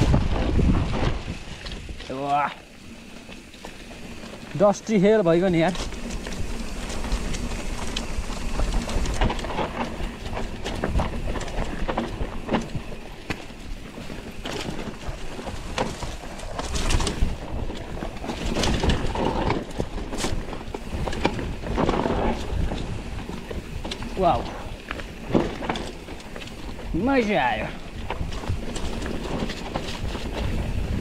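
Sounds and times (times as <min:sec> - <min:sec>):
bike rattling and knocking: 0:00.0 - 0:31.0
bike tyres crunching on dirt: 0:00.0 - 0:31.0
wind buffeting microphone: 0:00.0 - 0:31.0.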